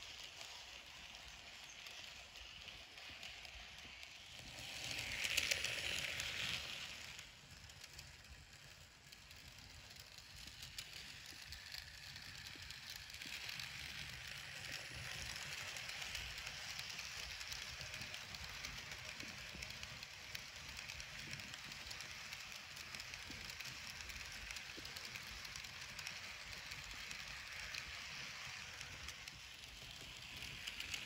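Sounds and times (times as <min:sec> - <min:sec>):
model train rattling on track: 0:00.0 - 0:31.0.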